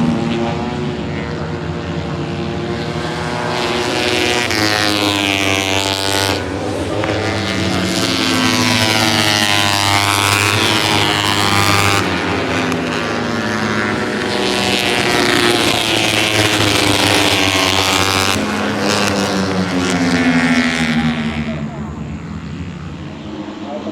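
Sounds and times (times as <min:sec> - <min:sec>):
racing motorcycle engines revving: 0:00.0 - 0:23.9.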